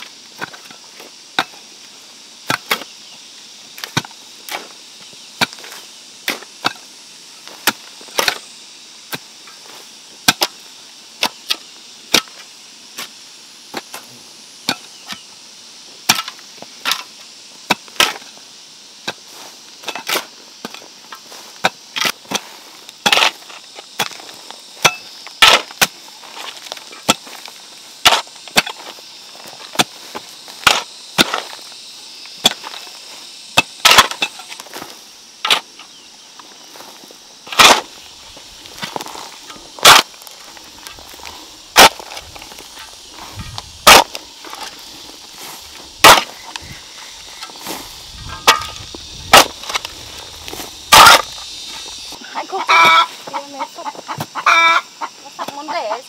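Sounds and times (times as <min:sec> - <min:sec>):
faint high hiss: 0:00.0 - 0:53.8.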